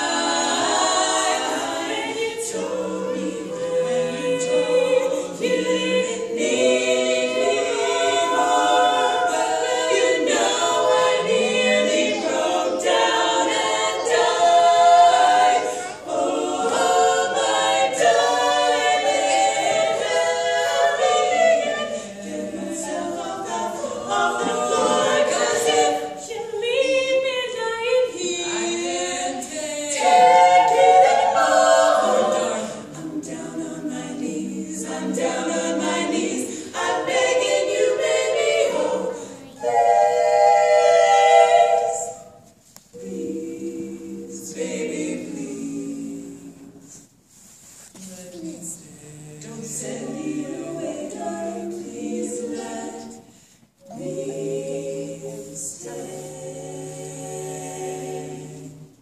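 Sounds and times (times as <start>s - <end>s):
women singing in close harmony: 0.0s - 59.0s.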